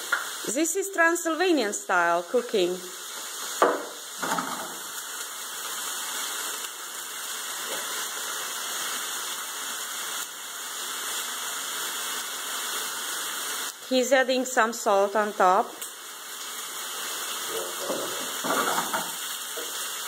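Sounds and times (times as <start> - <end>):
chicken sizzling in a frying pan: 0.0 - 20.0.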